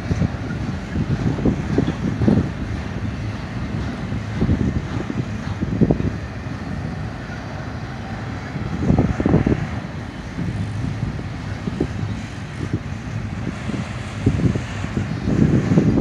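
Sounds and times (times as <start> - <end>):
freight train rumbling past: 0.0 - 16.0
wind buffeting microphone: 0.0 - 16.0.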